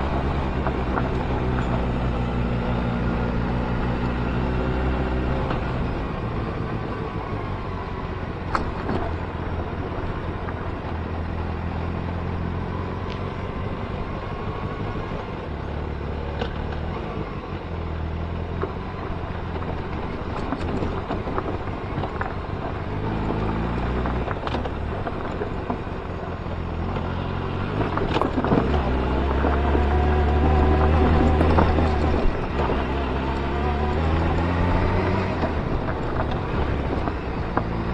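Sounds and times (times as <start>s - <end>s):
motorcycle engine running: 0.0s - 37.9s
road and wind noise: 0.0s - 37.9s.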